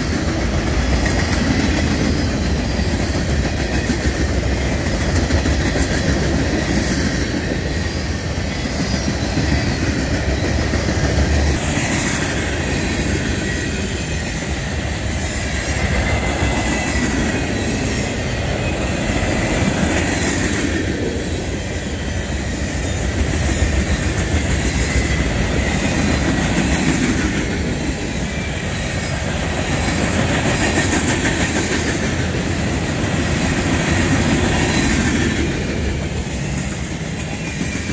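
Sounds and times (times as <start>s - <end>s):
freight train wheels clattering: 0.0s - 37.9s.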